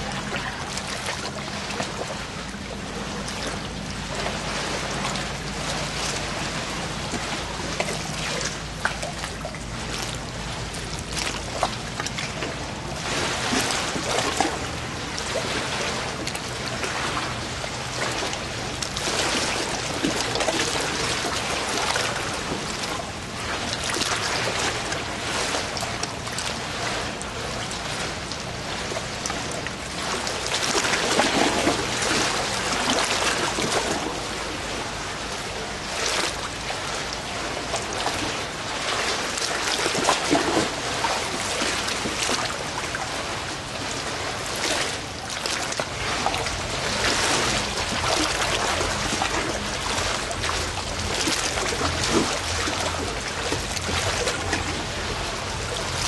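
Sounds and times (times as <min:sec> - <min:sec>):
low steady hum: 0:00.0 - 0:56.0
water trickling and splashing: 0:00.0 - 0:56.0.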